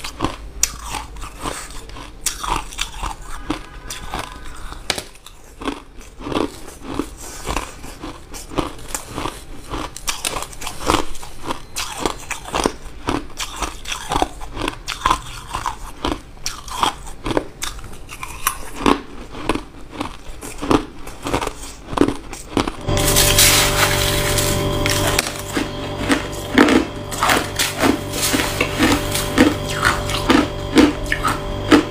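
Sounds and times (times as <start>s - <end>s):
ice crunching in mouth: 0.0s - 31.9s.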